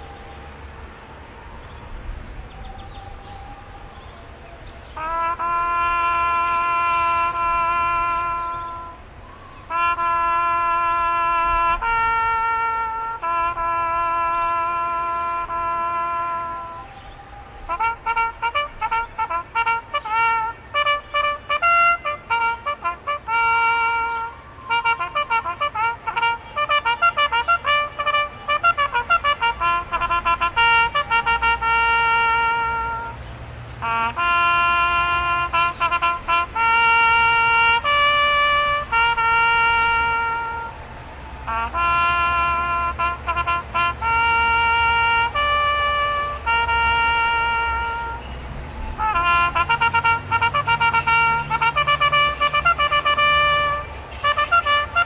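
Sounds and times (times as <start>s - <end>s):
solo trumpet bugle call: 0.0s - 0.3s, 4.9s - 55.0s.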